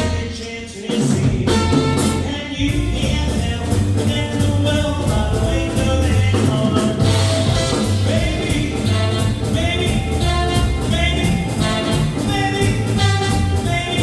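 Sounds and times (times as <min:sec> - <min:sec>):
drum beat: 0:00.0 - 0:14.0
swing band playing live: 0:00.0 - 0:14.0.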